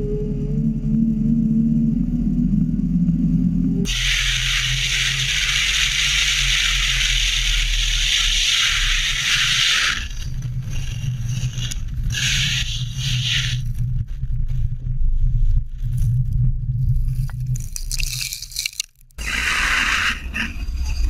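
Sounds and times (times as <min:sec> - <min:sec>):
low engine drone: 0:00.0 - 0:18.0
wind and road noise: 0:00.0 - 0:21.0.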